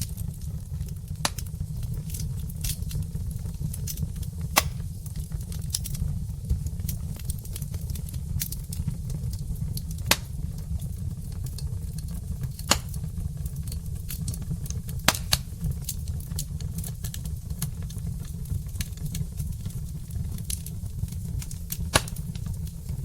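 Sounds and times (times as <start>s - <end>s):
logs crackling in fireplace: 0.0s - 23.0s
low rumble of fire: 0.0s - 23.0s.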